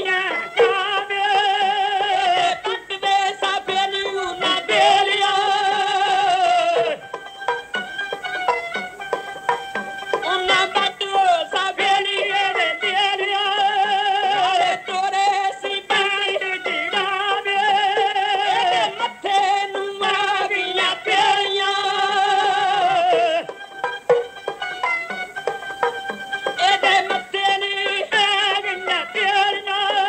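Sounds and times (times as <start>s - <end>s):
folk singing with wavering notes: 0.0s - 30.0s
instrumental accompaniment with taps: 0.0s - 30.0s.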